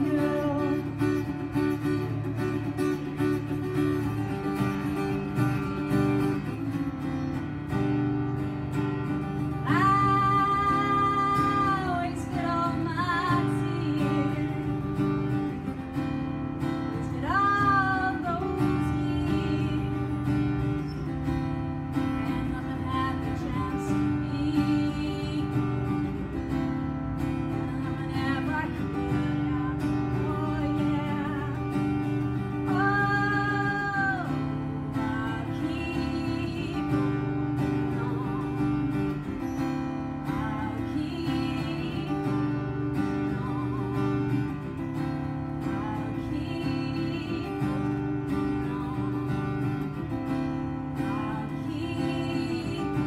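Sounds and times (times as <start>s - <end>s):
acoustic guitars strumming: 0.0s - 53.0s.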